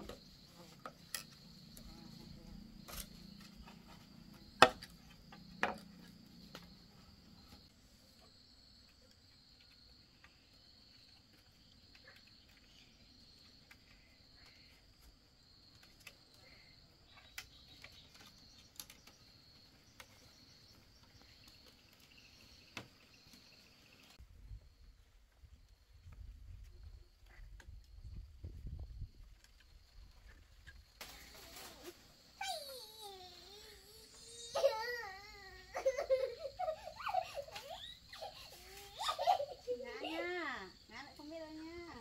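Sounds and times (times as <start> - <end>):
insects chirping: 0.0 - 42.0.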